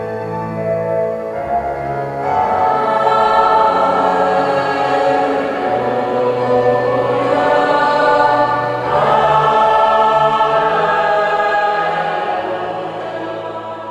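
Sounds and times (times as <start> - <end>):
choir singing held chords: 0.0 - 13.9.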